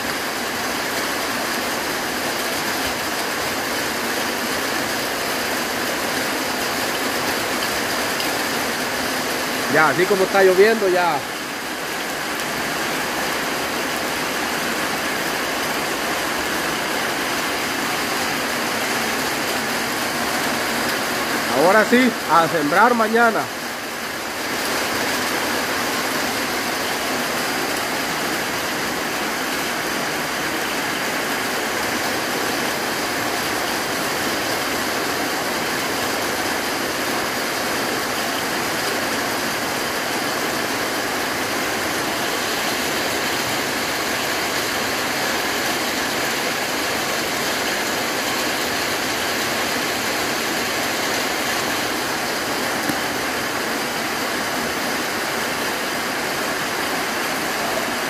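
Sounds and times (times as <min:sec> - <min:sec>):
rain on a corrugated roof: 0:00.0 - 0:58.0.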